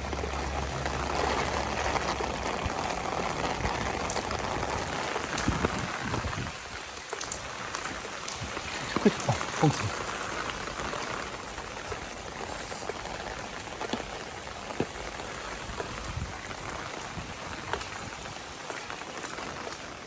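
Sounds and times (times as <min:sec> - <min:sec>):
heavy rain splashing: 0:00.0 - 0:20.0.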